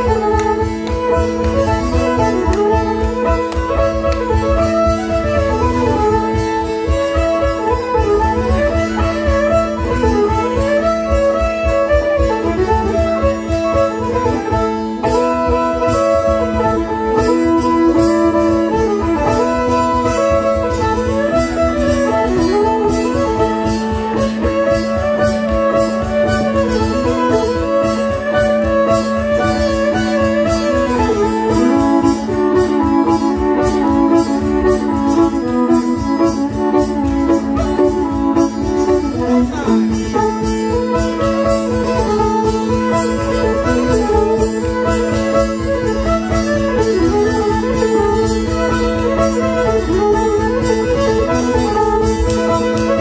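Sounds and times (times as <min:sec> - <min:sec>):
dulcimer strummed drone: 0:00.0 - 0:53.0
fiddle melody: 0:00.0 - 0:53.0.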